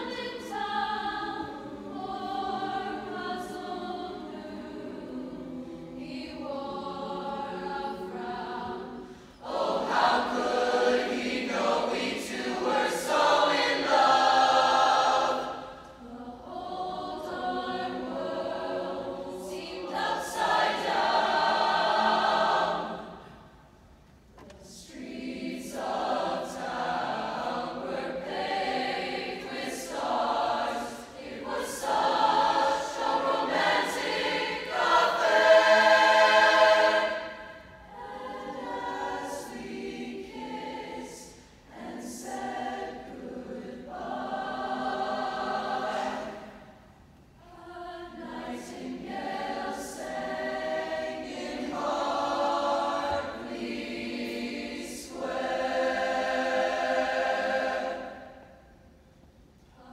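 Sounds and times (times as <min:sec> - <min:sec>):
mixed-voice choir singing: 0:00.0 - 0:59.9.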